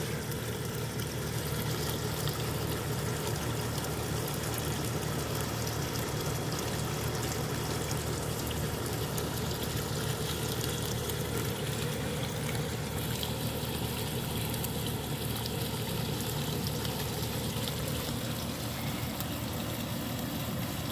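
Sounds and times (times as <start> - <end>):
fountain splashing into pond: 0.0 - 20.9.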